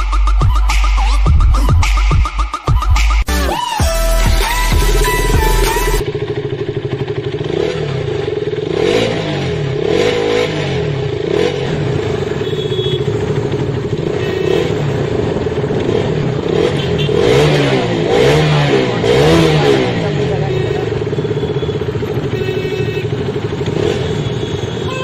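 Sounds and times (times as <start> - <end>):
motorcycle engine revving: 4.1 - 25.0.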